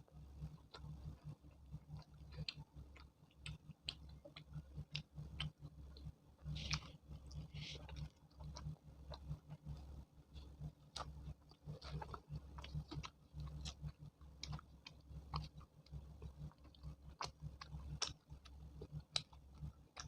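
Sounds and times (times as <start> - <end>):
faint low hum: 0.0 - 20.0
person chewing: 0.1 - 20.0.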